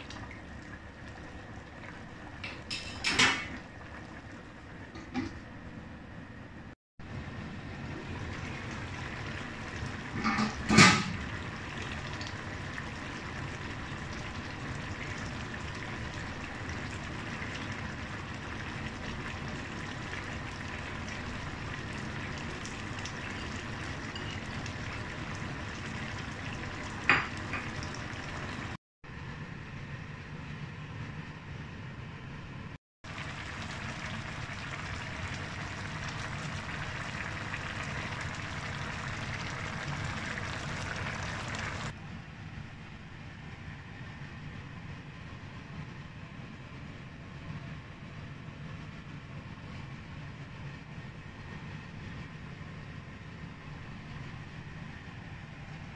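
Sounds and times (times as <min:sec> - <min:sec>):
broth simmering in a wok: 0:00.0 - 0:31.4, 0:33.1 - 0:55.9.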